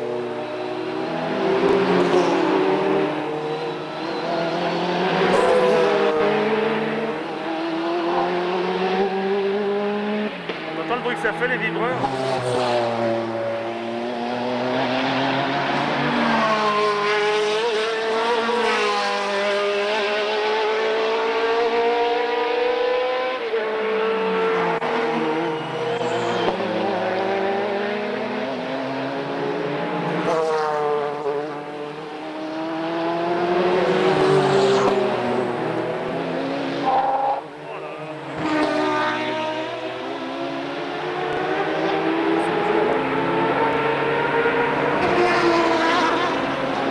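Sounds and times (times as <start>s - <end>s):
race cars accelerating: 0.0s - 46.9s.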